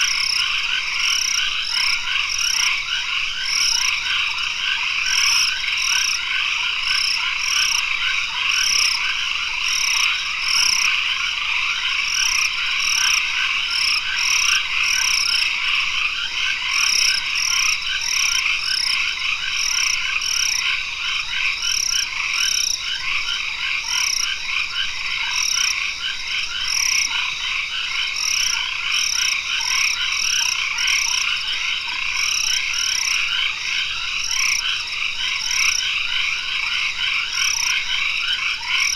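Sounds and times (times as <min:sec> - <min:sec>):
frogs calling: 0:00.0 - 0:38.9.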